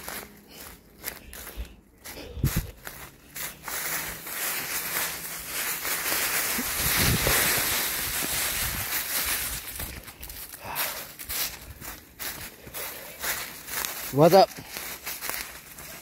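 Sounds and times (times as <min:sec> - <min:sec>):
footsteps on dry leaves: 0:00.0 - 0:16.0.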